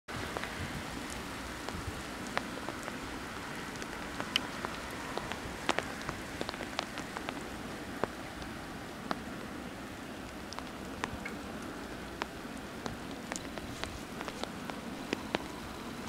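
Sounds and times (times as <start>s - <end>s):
sharp raindrop ticks: 0.1s - 16.0s
steady rain: 0.1s - 16.0s.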